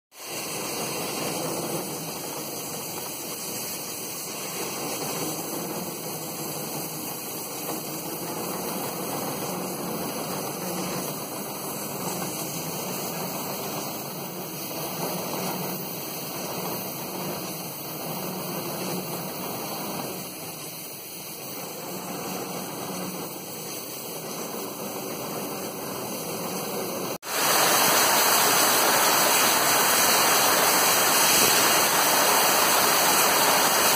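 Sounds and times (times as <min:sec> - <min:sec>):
coal fire roaring in firebox: 0:00.1 - 0:33.9
steam hissing: 0:00.1 - 0:33.9.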